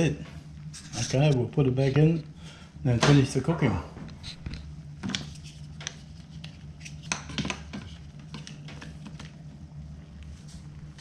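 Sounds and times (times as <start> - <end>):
microwave hum: 0.0 - 11.0.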